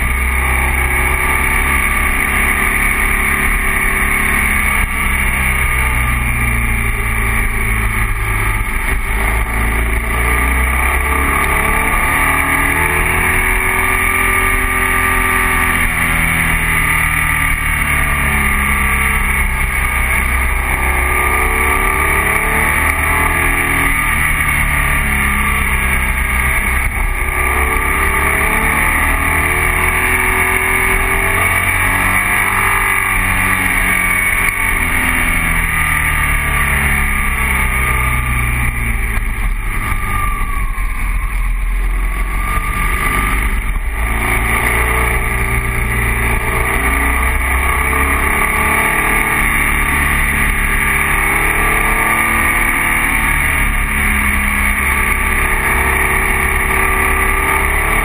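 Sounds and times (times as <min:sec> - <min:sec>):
motorcycle engine under way: 0:00.0 - 0:58.0
wind and road noise: 0:00.0 - 0:58.0.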